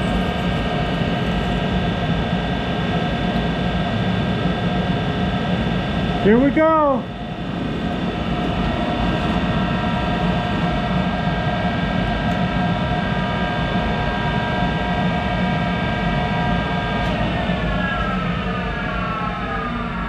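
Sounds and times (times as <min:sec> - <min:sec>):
lathe drive whining: 0:00.0 - 0:20.0.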